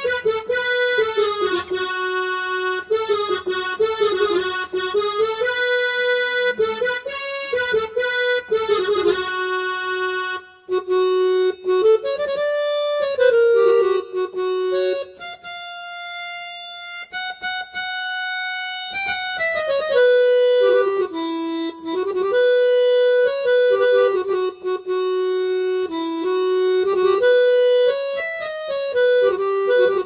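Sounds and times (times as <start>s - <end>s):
electronic keyboard melody: 0.0s - 30.0s.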